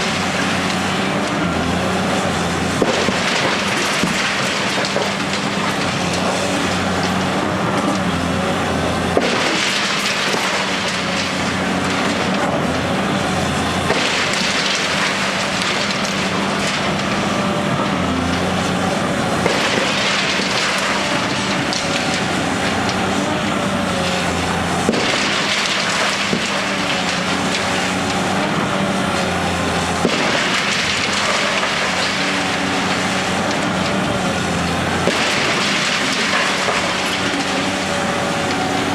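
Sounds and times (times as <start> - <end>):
crumbling rubble: 0.0 - 38.9
diesel engine running: 0.0 - 38.9.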